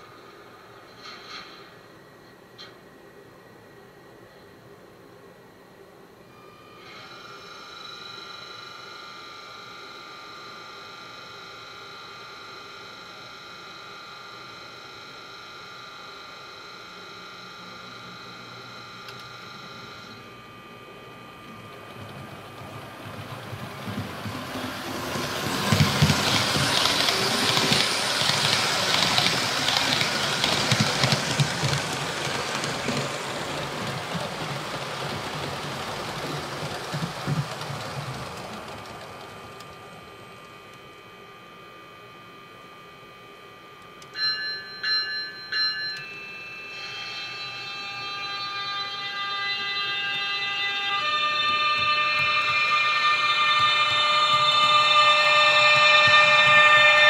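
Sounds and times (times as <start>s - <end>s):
model train running with low pulsing: 0.0s - 57.0s
multi-tone electric whine: 0.0s - 57.0s.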